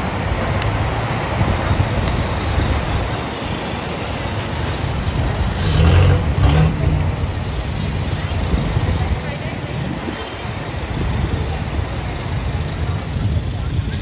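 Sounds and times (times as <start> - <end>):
diesel pickup engine passing: 0.0 - 14.0
street noise: 0.0 - 14.0.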